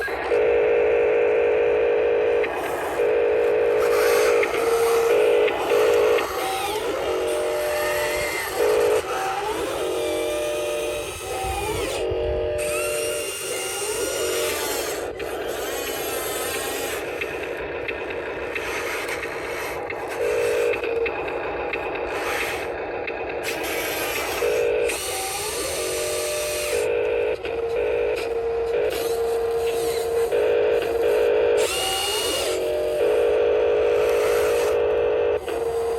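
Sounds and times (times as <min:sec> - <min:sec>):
small electric motors whining: 0:00.0 - 0:35.9.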